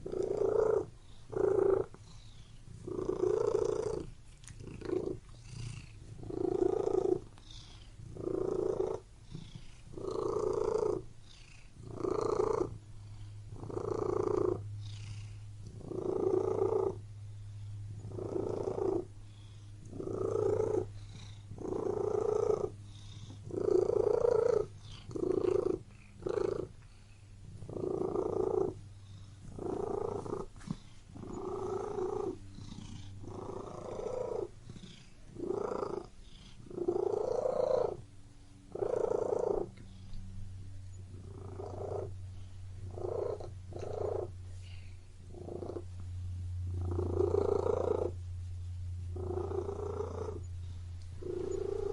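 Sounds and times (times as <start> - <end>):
cat purring: 0.0 - 51.9
faint low hum: 0.0 - 51.9.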